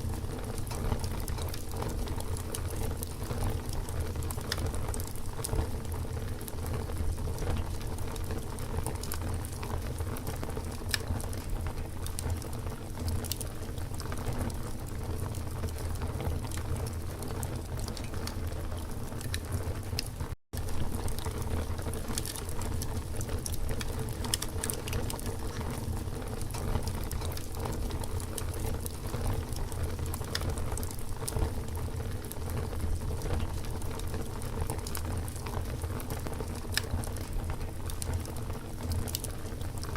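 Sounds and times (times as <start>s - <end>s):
campfire crackling: 0.0s - 39.9s
fire pops and snaps: 0.0s - 39.9s.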